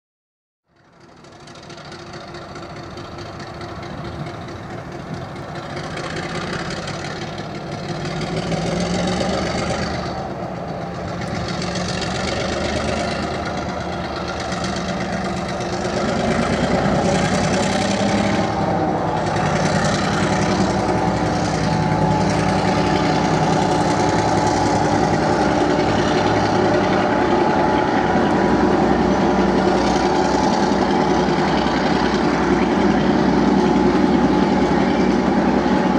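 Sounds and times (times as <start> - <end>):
carriages rolling by: 0.7 - 35.9
diesel locomotive pulling under load: 0.7 - 35.9.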